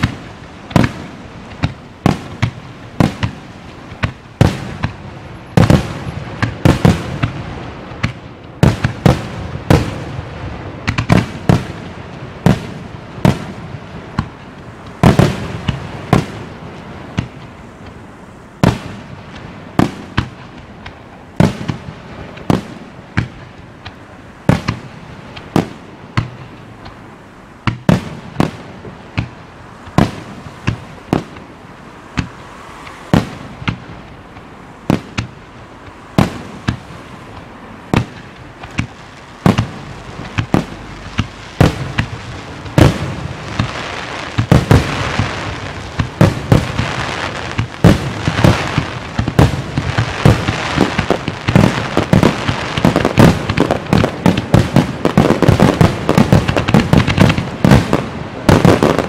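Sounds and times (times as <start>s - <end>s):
firework crackle and rumble: 0.0s - 59.0s.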